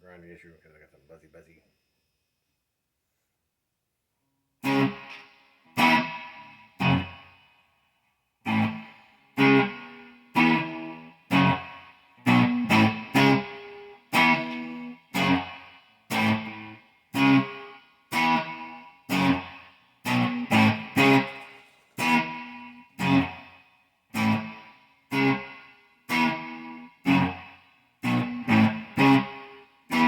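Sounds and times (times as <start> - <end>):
distorted electric guitar chord stabs: 4.6 - 7.4, 8.5 - 30.0.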